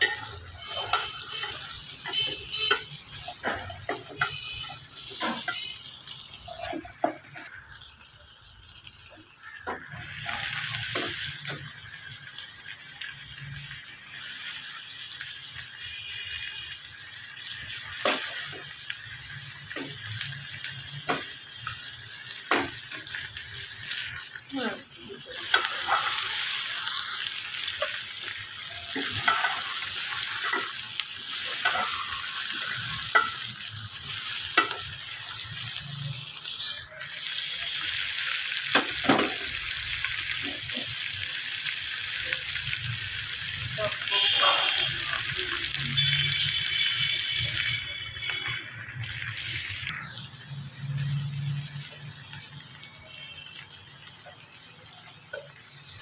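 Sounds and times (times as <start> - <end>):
vegetables sizzling in a pot: 0.0 - 56.0.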